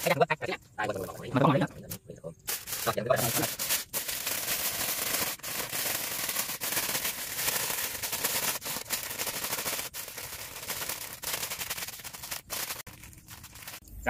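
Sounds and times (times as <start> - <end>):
aluminium foil crinkling: 2.4 - 14.0.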